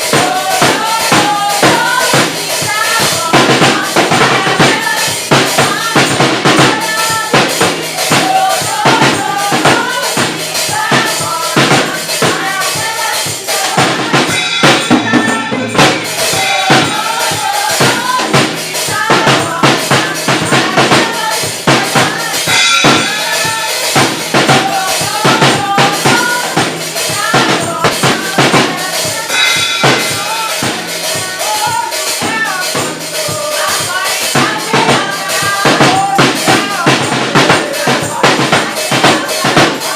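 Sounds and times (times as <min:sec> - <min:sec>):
drum kit steady beat: 0:00.0 - 0:39.9
tambourine: 0:00.0 - 0:39.9
voices singing: 0:00.0 - 0:39.9.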